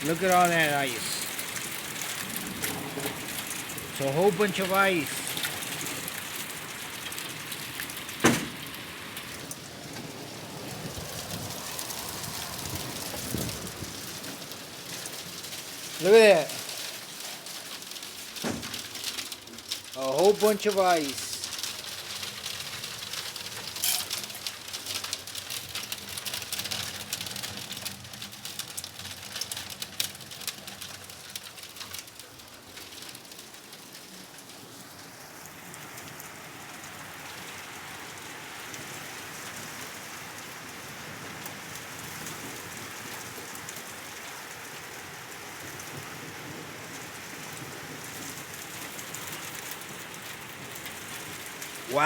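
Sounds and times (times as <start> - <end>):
hail hitting the ground: 0.0 - 52.0.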